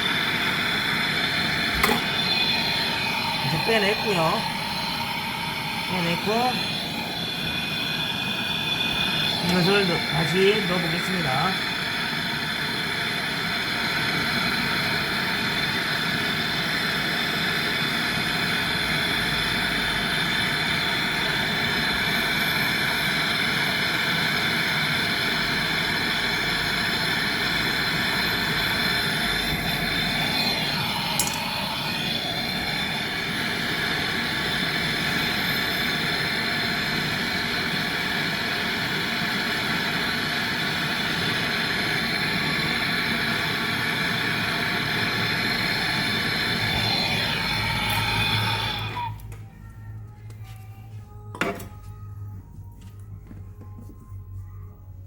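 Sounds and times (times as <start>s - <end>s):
mechanical hum and hiss: 0.0s - 55.0s.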